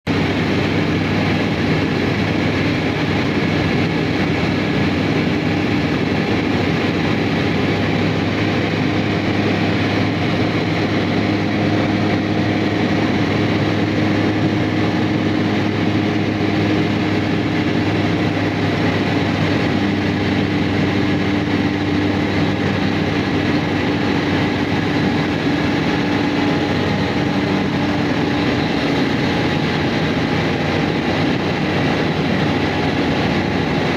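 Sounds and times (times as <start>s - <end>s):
airliner engines droning: 0.0s - 33.9s.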